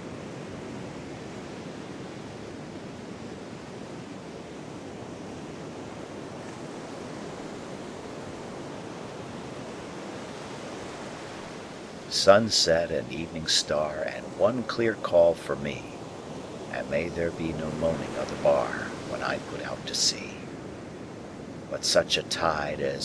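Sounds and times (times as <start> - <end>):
ocean surf rushing: 0.0 - 23.0.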